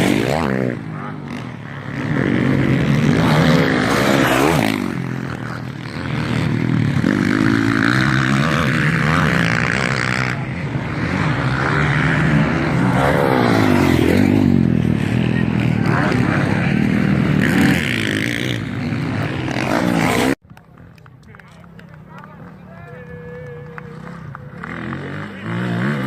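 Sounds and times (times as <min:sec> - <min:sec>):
motocross bikes revving past: 0:00.0 - 0:20.4, 0:22.4 - 0:26.0.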